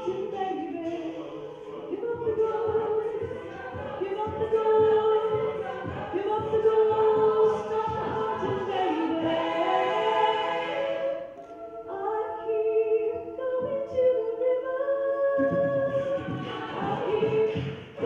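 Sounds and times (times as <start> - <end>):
low rhythmic pulse: 0.0 - 14.4
vocal group singing in harmony: 0.0 - 18.0.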